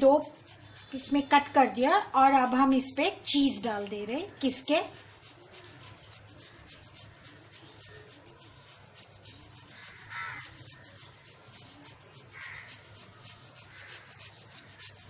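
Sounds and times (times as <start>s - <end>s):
cheese grating on metal grater: 0.0s - 15.0s.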